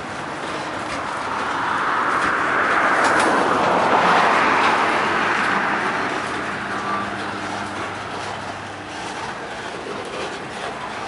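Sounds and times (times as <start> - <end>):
freight train wheels on rails: 0.0 - 11.0.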